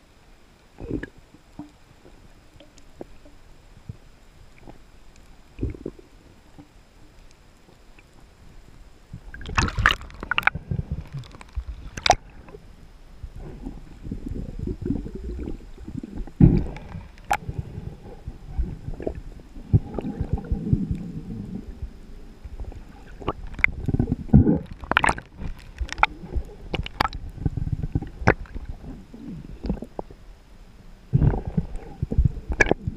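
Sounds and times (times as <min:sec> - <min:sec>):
underwater rumbling and gurgling: 0:00.0 - 0:32.9.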